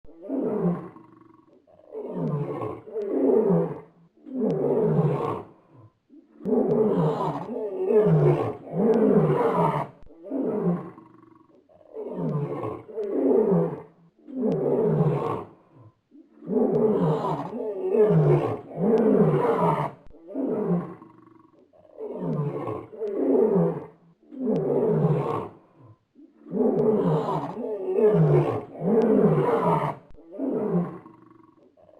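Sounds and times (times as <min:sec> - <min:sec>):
lion roaring: 0:00.1 - 0:31.9.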